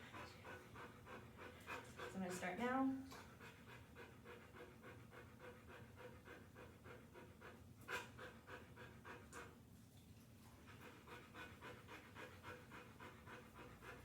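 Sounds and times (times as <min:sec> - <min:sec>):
dog panting: 0:00.0 - 0:09.6, 0:10.4 - 0:14.0.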